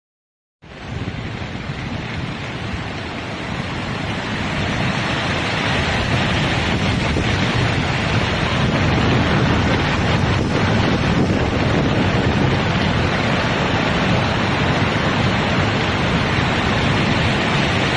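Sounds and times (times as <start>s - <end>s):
storm wind gusting: 0.6s - 17.9s
wind buffeting microphone: 0.7s - 17.9s.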